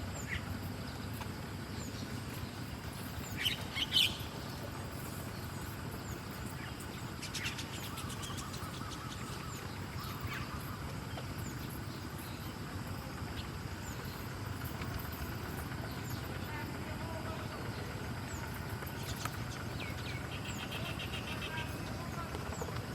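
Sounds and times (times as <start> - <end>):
low outdoor background rumble: 0.0 - 22.9.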